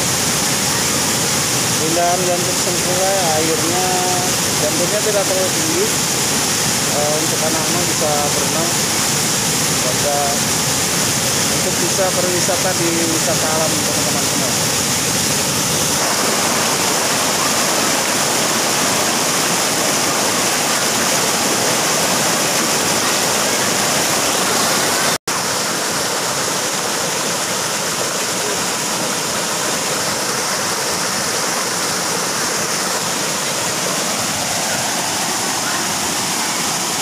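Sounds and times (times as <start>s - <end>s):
water rushing over rocks: 0.0s - 37.0s.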